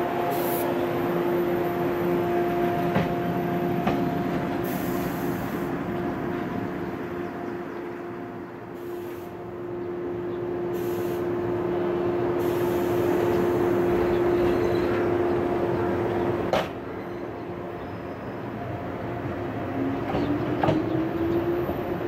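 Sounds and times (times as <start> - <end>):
electric train equipment hum: 0.0 - 22.0.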